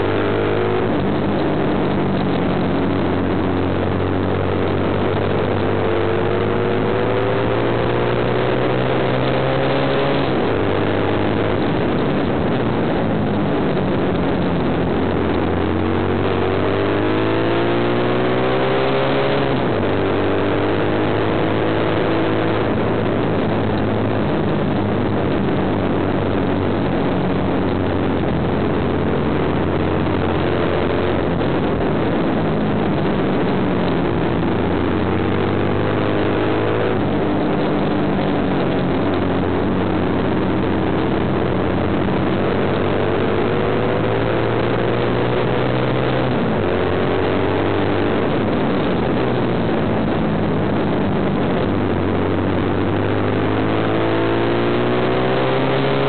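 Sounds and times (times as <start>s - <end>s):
motorcycle engine running hard: 0.0s - 56.0s
steady rushing noise: 0.0s - 56.0s.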